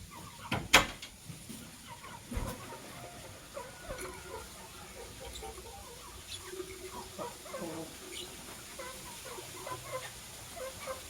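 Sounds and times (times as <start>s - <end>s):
lovebirds chirping and squeaking: 0.0s - 0.6s, 1.7s - 11.0s.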